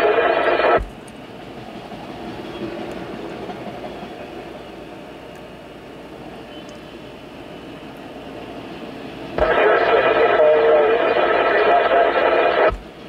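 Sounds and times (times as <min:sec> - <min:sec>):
train wheels on rails: 0:00.0 - 0:10.6, 0:12.3 - 0:13.0.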